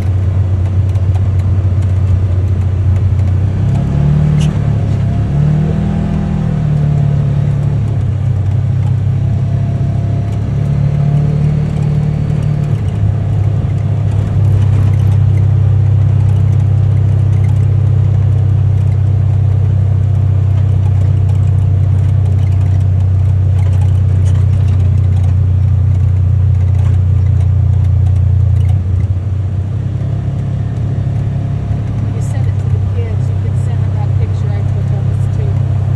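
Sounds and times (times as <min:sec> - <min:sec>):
vehicle engine droning: 0:00.0 - 0:35.9.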